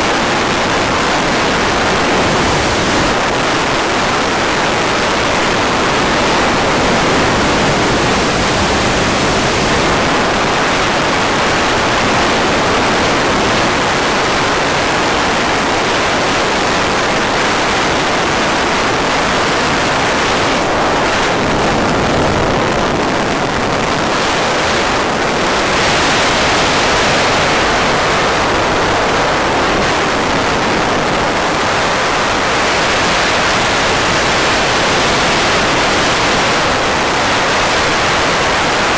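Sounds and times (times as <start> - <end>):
loud rushing hiss: 0.0 - 38.9.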